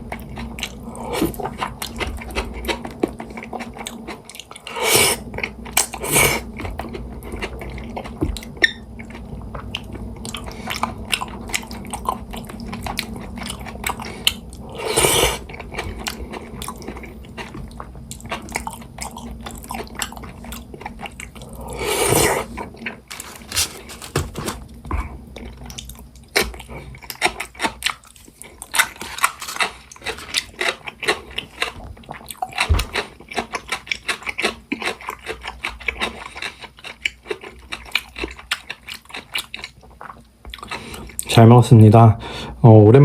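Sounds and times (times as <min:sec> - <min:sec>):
wet chewing of noodles: 0:00.0 - 0:41.4.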